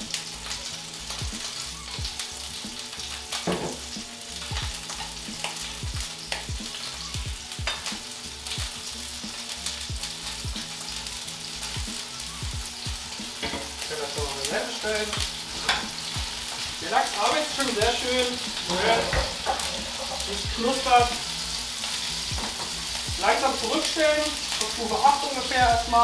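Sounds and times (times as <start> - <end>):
fish and chicken sizzling in oil: 0.0 - 26.0.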